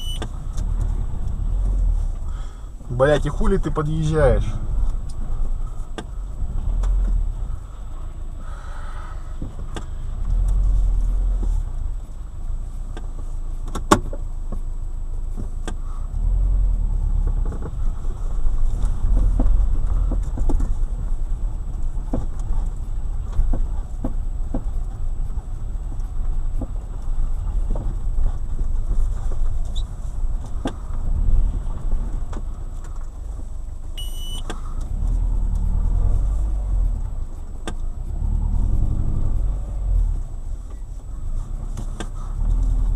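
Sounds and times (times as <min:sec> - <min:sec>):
car driving over bumps: 0:00.0 - 0:42.9.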